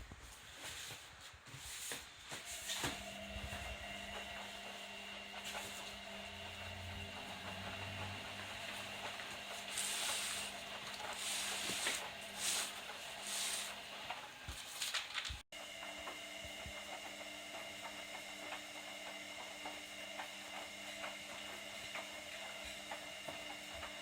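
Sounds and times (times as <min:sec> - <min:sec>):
washing machine motor humming: 0:02.3 - 0:24.0.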